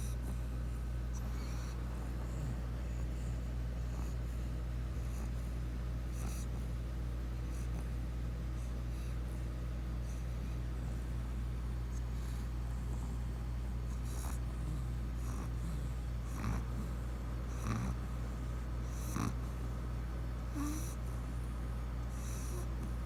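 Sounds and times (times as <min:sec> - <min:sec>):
dog snoring: 0:00.0 - 0:19.8, 0:20.4 - 0:21.5, 0:22.1 - 0:23.0
steady low hum: 0:00.0 - 0:23.0.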